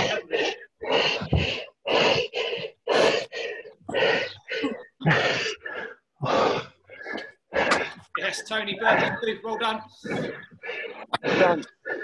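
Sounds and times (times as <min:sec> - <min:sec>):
person panting hard: 0:00.0 - 0:12.0.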